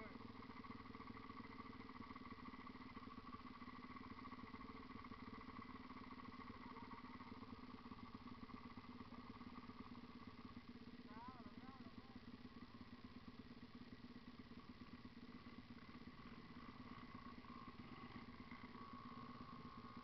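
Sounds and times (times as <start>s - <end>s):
dirt bike engine idling: 0.0s - 20.0s.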